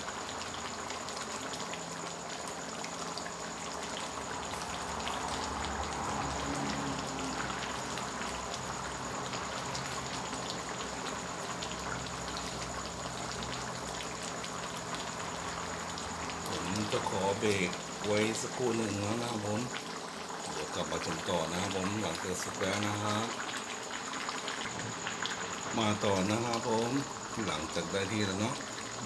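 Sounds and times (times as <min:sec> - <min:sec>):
curry bubbling in a pan: 0:00.0 - 0:29.0.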